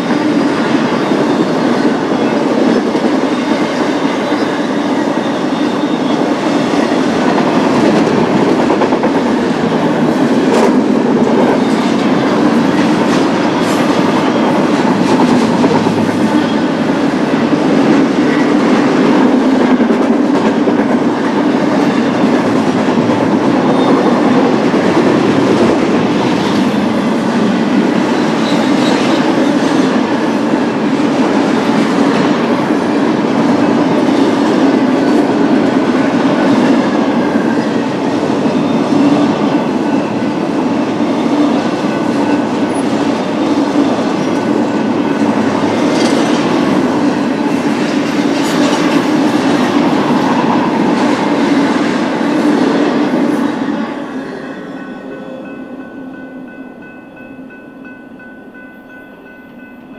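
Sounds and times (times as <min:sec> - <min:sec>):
rail click: 0:00.0 - 0:59.9
train wheels rumbling on rails: 0:00.0 - 0:59.9.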